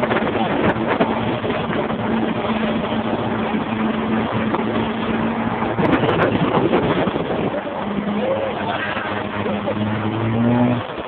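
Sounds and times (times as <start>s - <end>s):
motorboat engine running: 0.0s - 11.0s
wind and water rushing: 0.0s - 11.0s.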